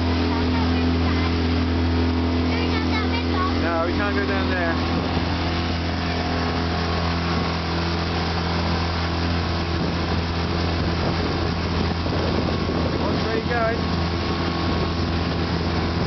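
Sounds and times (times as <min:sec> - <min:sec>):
motorboat engine droning: 0:00.0 - 0:16.0
rushing water: 0:00.0 - 0:16.0
wind: 0:00.0 - 0:16.0.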